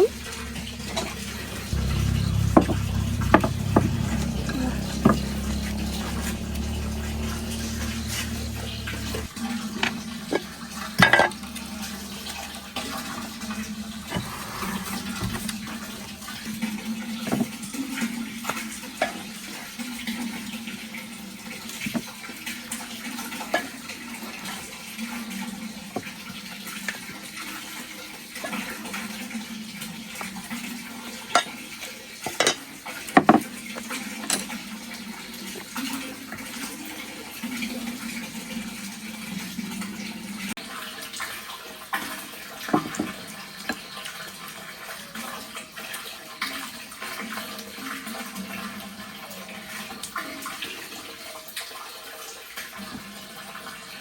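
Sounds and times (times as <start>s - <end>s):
water running and splashing: 0.0s - 54.0s.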